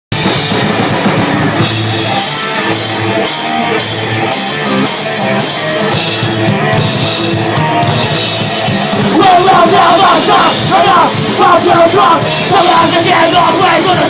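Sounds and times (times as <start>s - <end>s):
thrash metal band playing: 0.1s - 14.0s.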